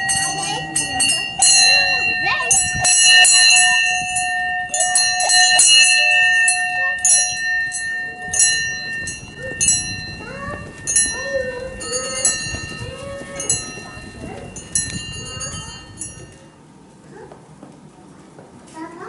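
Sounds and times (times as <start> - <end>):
metal bell ringing: 0.0 - 16.6.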